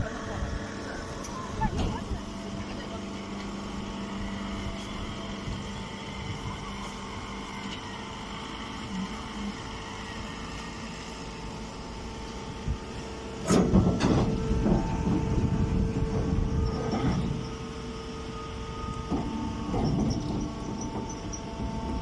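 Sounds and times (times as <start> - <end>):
baler mechanical hum: 0.0 - 22.0.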